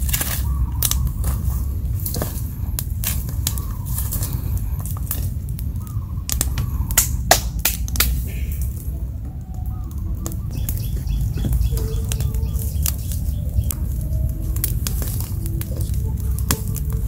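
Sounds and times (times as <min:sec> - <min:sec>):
campfire crackling and popping: 0:00.0 - 0:17.0
low rumble: 0:00.0 - 0:17.0.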